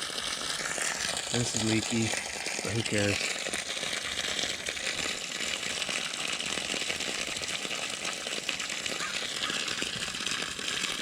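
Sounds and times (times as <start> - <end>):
water rushing from hydrant: 0.0 - 11.0.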